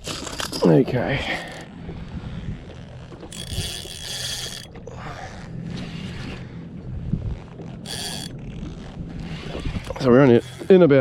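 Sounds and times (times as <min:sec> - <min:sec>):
fishing reel drag ratcheting: 0:00.0 - 0:06.4, 0:07.4 - 0:11.0
low steady hum: 0:00.0 - 0:11.0.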